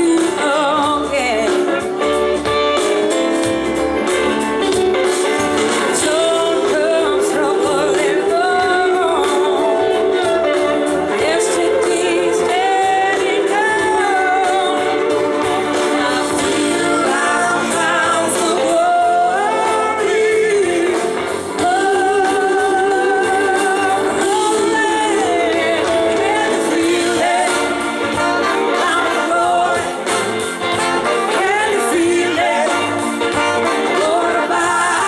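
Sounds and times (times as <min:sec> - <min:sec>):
woman singing: 0:00.0 - 0:02.2, 0:05.9 - 0:35.0
live blues-rock band: 0:00.0 - 0:35.0.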